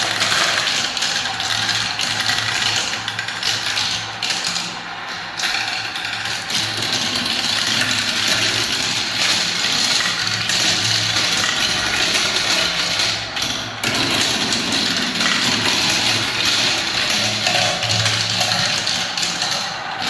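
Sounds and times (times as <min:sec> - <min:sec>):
marbles rolling down plastic tracks: 0:00.0 - 0:20.0.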